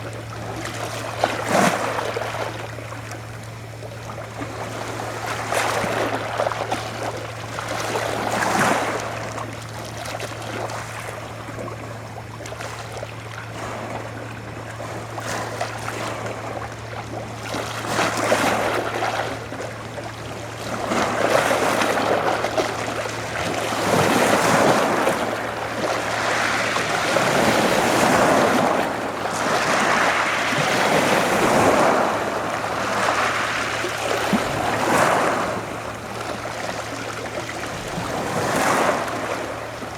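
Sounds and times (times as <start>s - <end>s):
small waves washing ashore: 0.0s - 39.9s
steady low hum: 0.0s - 39.9s.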